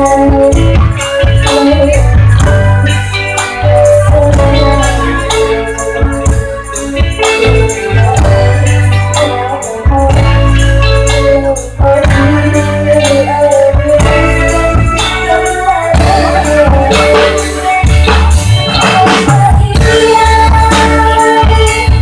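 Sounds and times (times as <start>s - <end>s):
loud music with heavy bass: 0.0s - 22.0s.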